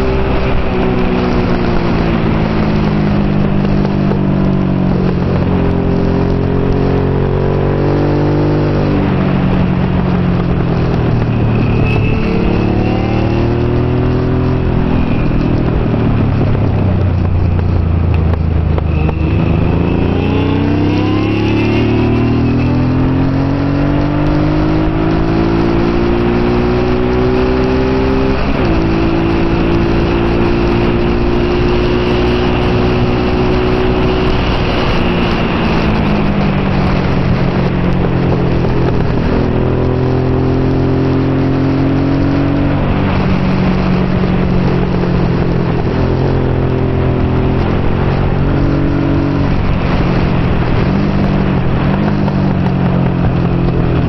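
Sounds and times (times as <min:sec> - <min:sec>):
motorcycle engine at race pace: 0:00.0 - 0:54.0.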